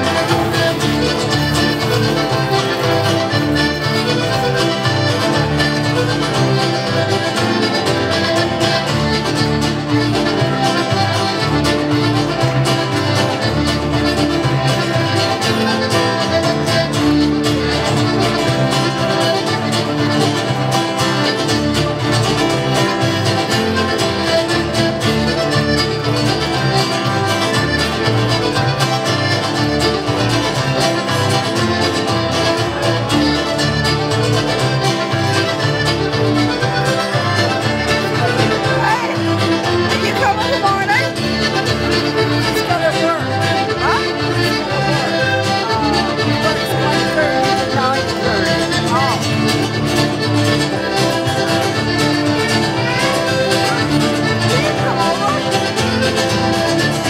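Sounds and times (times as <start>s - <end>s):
accordion: 0.0s - 57.0s
live band playing folk tune: 0.0s - 57.0s
steady bass line: 0.0s - 57.0s.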